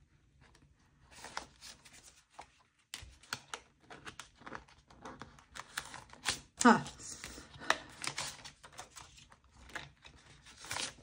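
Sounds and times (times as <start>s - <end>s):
paper banknotes rustling: 1.1s - 11.0s.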